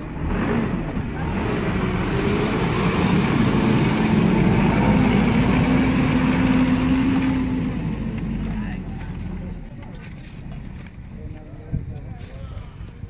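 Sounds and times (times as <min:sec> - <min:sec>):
truck diesel engine under load: 0:00.0 - 0:12.0
road noise: 0:00.0 - 0:13.0.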